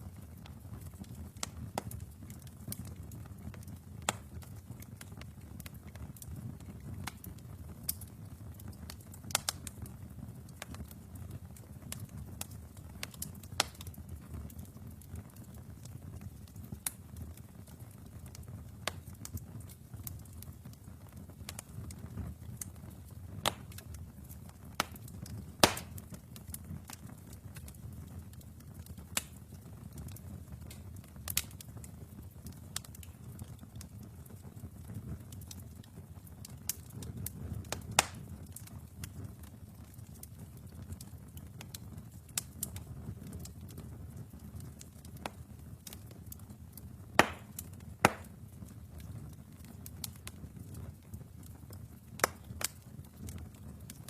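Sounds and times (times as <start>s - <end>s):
burning logs crackling and popping: 0.0s - 54.0s
low rumble of flames: 0.0s - 54.0s.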